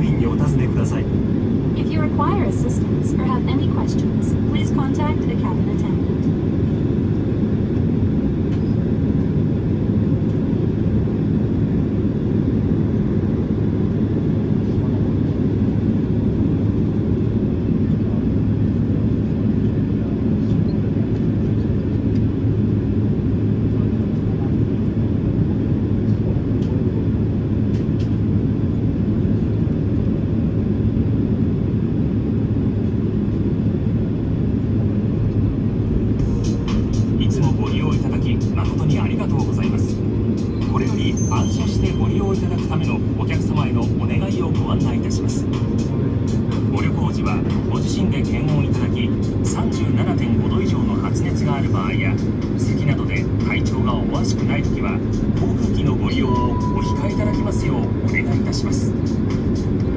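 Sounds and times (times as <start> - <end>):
constant hum: 0.0 - 59.9
low aircraft cabin rumble: 0.0 - 59.9.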